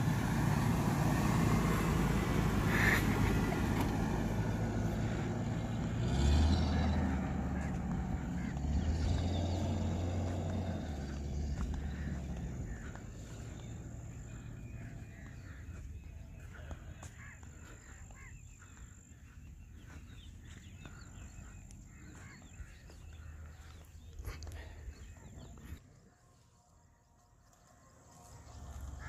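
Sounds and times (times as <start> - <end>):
distant car engine humming: 0.0 - 26.2
birds calling: 0.0 - 26.3.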